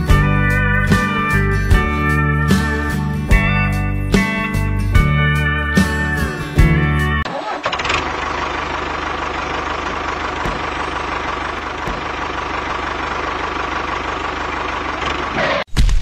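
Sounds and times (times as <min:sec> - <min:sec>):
tractor engine chugging: 0:00.0 - 0:15.6.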